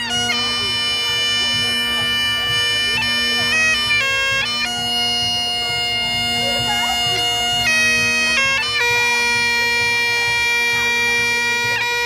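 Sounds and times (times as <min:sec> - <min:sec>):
bagpipe playing: 0:00.0 - 0:12.0.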